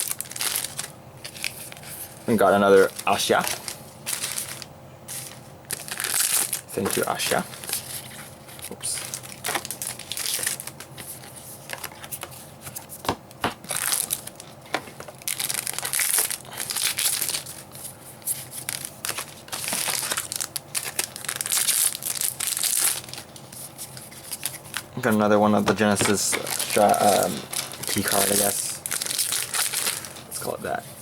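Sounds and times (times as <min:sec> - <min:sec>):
foil wrappers crinkling and tearing: 0:00.0 - 0:31.0.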